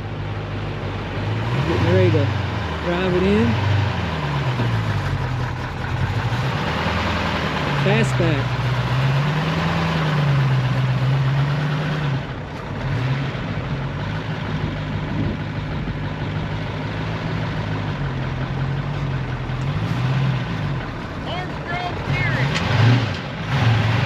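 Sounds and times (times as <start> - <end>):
car engine idling: 0.0 - 23.5.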